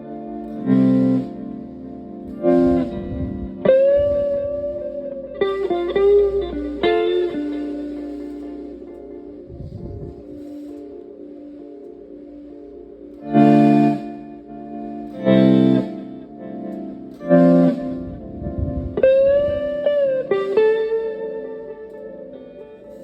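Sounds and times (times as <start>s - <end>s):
electric guitar chords with echo: 0.0s - 23.0s.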